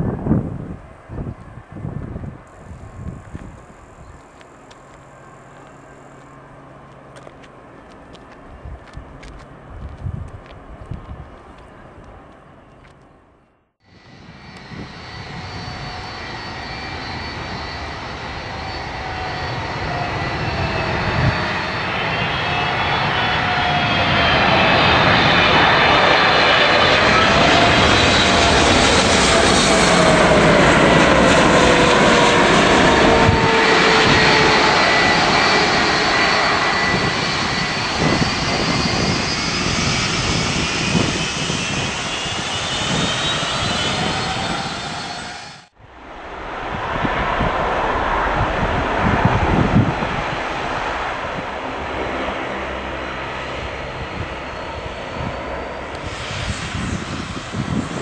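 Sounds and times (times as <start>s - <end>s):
jet engines passing: 0.0s - 13.2s, 13.9s - 58.0s.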